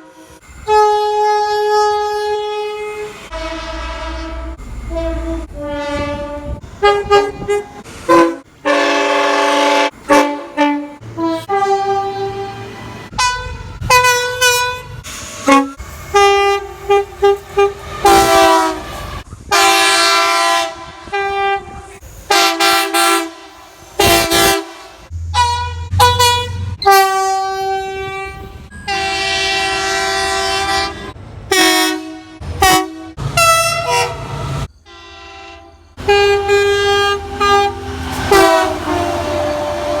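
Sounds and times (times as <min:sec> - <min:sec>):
train air horns blasting: 0:00.0 - 0:40.0.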